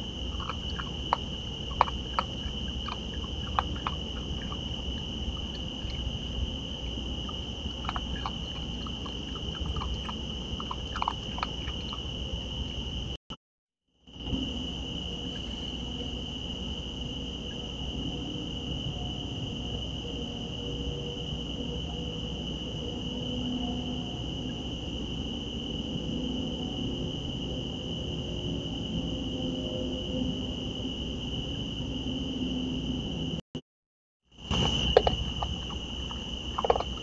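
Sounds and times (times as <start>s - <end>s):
crickets chirping: 0.0s - 13.2s, 14.0s - 33.4s, 34.3s - 37.0s.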